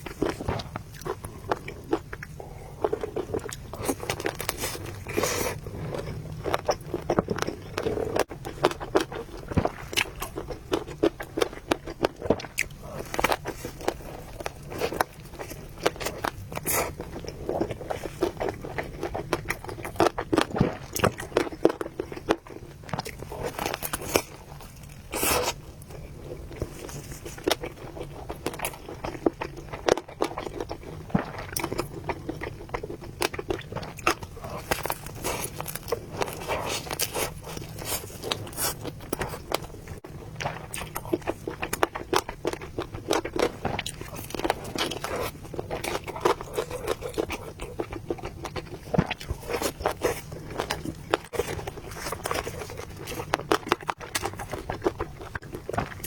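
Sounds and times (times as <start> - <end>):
chewing and biting: 0.0 - 56.0.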